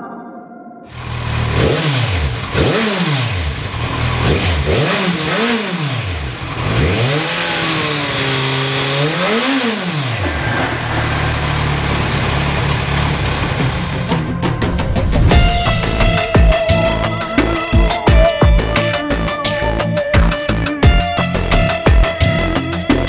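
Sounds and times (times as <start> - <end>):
motorcycle engine revving and idling: 0.9 - 23.0.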